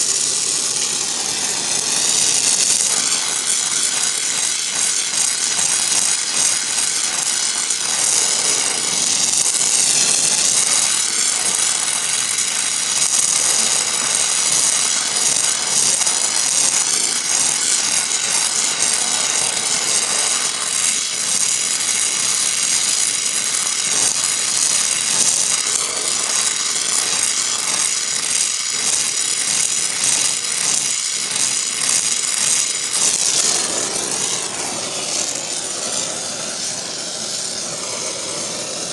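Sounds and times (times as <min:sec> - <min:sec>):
gas torch flame hissing: 0:00.0 - 0:38.9.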